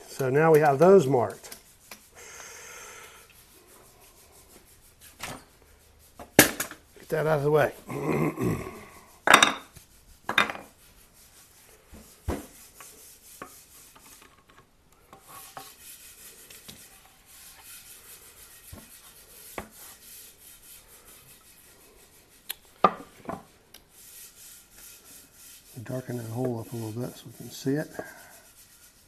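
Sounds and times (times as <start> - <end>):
light rubbing and scraping: 0.0 - 2.4, 3.0 - 29.0.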